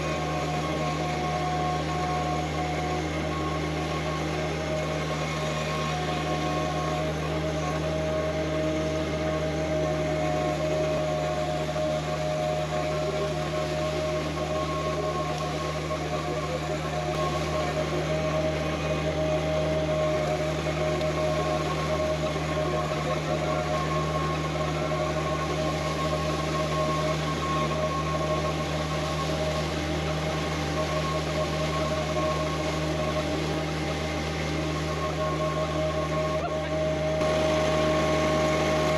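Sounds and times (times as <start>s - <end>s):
machine humming: 0.0s - 38.9s.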